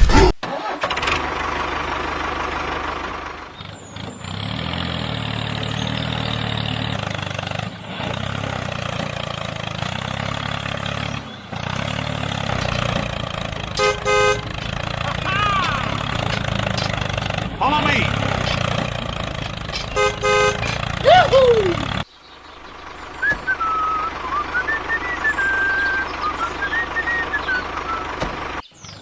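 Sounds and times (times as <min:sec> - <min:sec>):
truck engine idling: 0:00.5 - 0:29.0.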